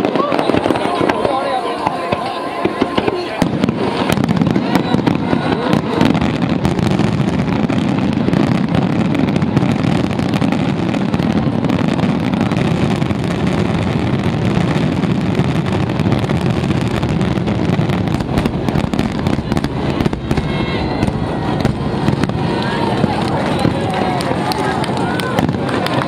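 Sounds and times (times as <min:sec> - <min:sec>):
fireworks booming: 0:00.0 - 0:26.0
fireworks crackling: 0:00.0 - 0:26.0.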